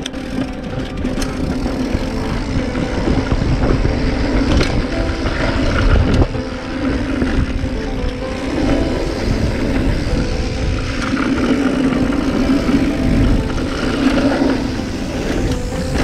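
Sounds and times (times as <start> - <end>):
bike tyres rolling on dirt: 0.0 - 16.0
wind rushing over camera: 0.0 - 16.0.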